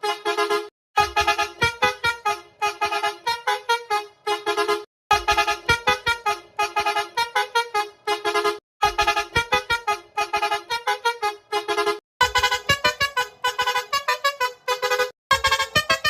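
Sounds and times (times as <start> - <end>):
horn honking staccato tune: 0.0 - 16.0.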